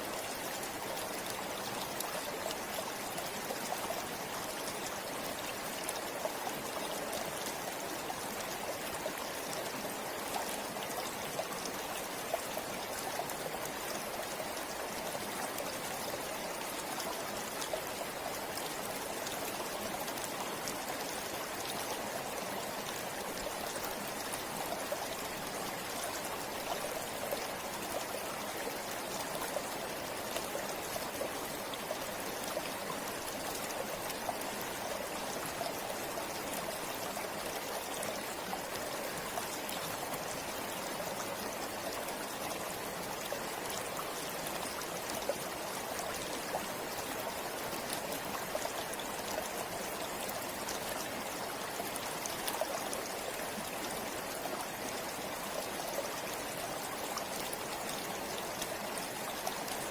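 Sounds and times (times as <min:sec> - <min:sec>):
shallow river rushing and burbling: 0:00.0 - 0:59.9.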